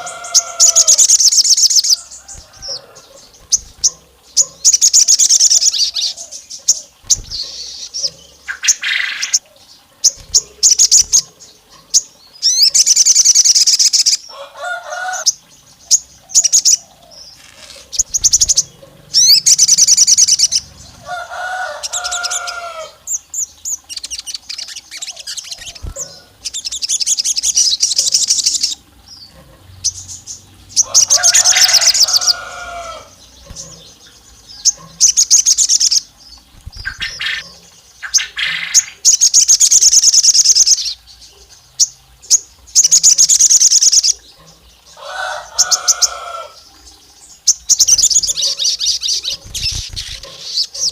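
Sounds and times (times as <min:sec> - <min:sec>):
songbird trilling: 0:00.0 - 0:41.1, 0:41.7 - 0:50.9.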